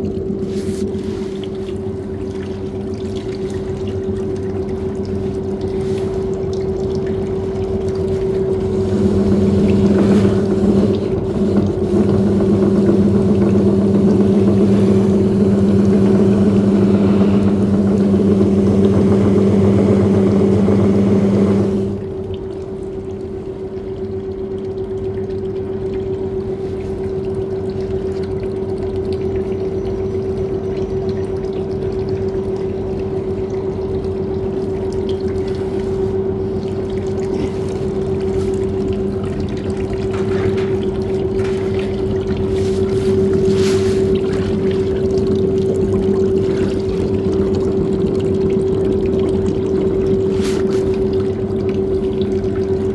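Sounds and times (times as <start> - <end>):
water churning and sloshing: 0.0 - 52.9
washing machine motor hum: 1.8 - 52.9.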